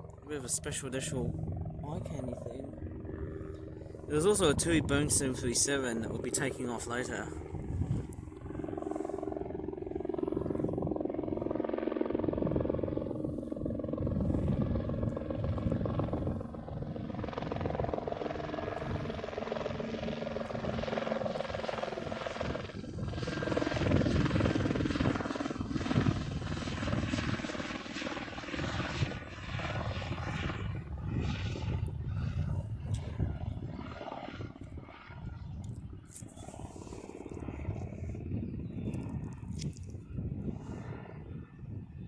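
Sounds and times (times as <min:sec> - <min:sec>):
helicopter flying past: 0:00.0 - 0:42.0.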